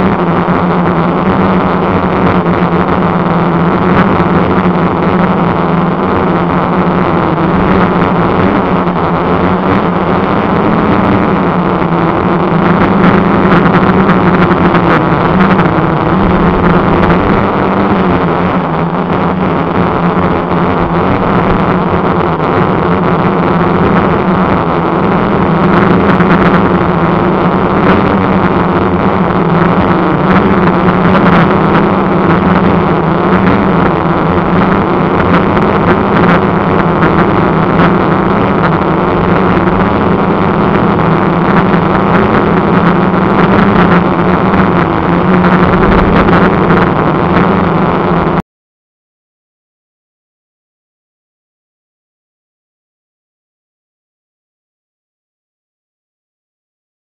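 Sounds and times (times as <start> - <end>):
quadcopter propellers whirring: 0.0 - 48.4.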